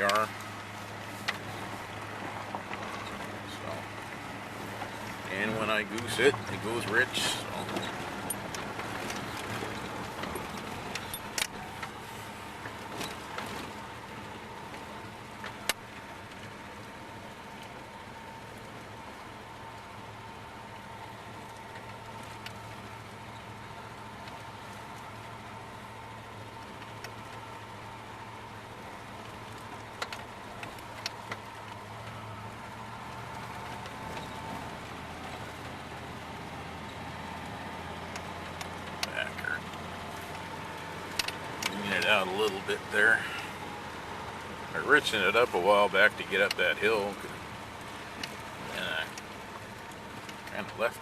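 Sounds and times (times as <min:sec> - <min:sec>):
pickup engine from inside cab: 0:00.0 - 0:51.0
road noise: 0:00.0 - 0:51.0.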